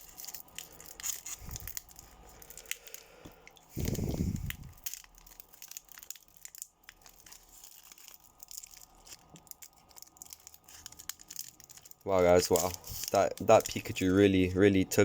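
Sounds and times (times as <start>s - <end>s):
foil wrapper crinkling and tearing: 0.0s - 14.5s.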